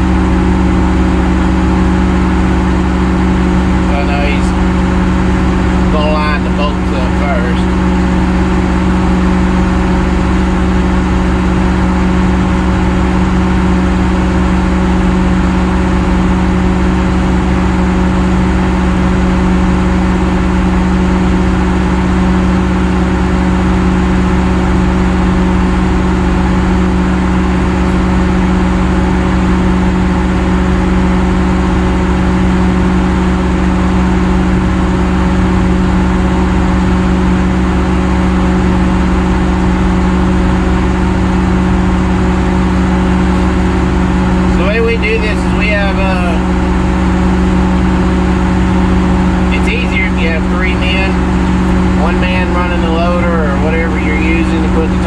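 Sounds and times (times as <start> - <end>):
heavy machine engine humming: 0.0 - 55.0.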